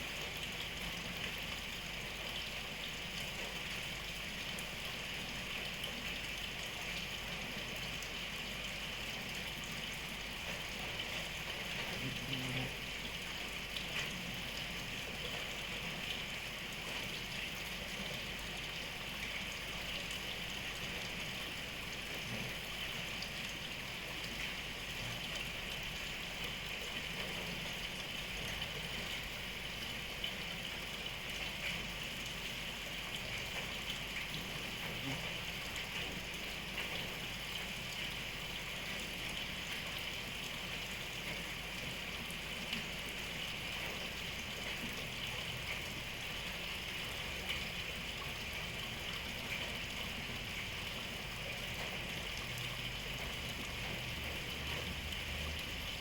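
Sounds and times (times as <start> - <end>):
steady rain falling: 9.2 - 56.0.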